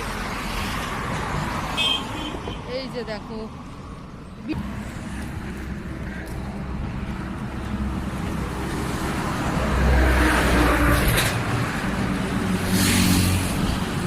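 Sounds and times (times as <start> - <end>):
highway traffic: 0.0 - 14.0.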